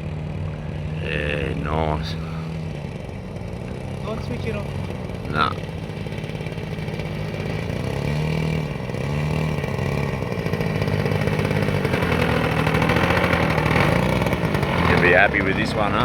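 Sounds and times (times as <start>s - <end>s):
model plane engine running: 0.0s - 16.0s.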